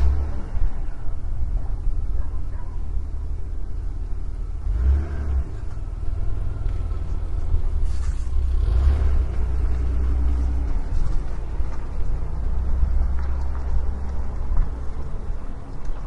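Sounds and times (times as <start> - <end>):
road traffic rumble: 0.0 - 16.0
vehicles passing: 0.0 - 16.0.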